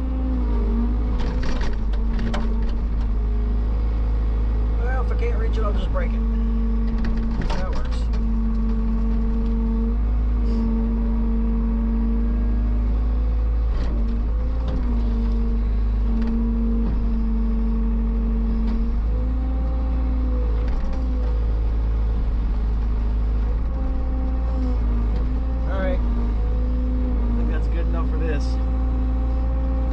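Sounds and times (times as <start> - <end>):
heavy machine engine whining: 0.0 - 29.9.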